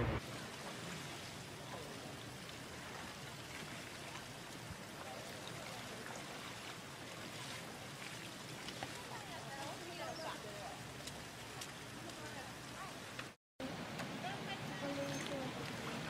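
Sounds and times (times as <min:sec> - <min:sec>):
faint rush of water: 0:00.0 - 0:16.0.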